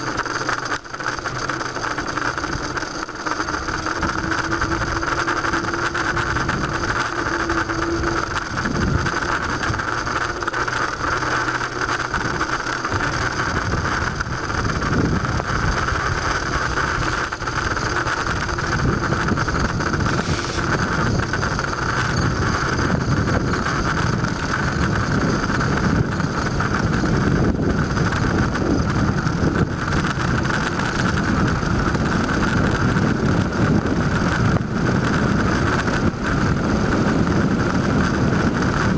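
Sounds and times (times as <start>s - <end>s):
low rumble: 0.0s - 38.9s
road and bike noise: 0.0s - 38.9s
wind rush on microphone: 0.0s - 38.9s.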